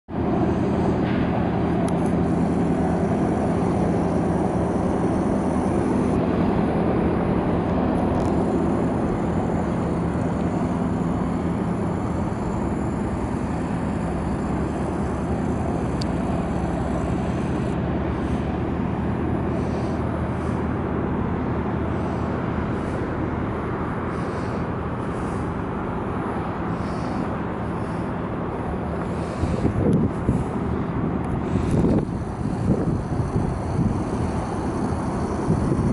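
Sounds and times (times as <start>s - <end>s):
boat engine droning: 0.1s - 35.9s.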